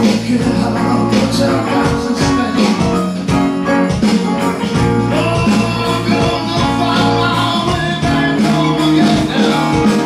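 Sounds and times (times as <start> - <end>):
bass: 0.0 - 10.0
electric guitars: 0.0 - 10.0
keyboard chords: 0.0 - 10.0
percussive beat: 0.0 - 10.0.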